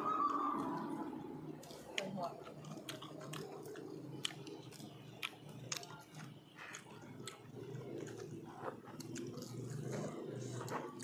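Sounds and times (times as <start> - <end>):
faint low hum: 0.0 - 11.0
people chewing food: 0.0 - 11.0
crunches and clicks of biting: 0.3 - 11.0.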